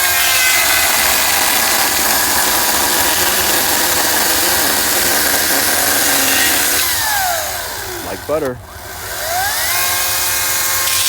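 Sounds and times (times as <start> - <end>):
chainsaw cutting log: 0.0 - 11.0.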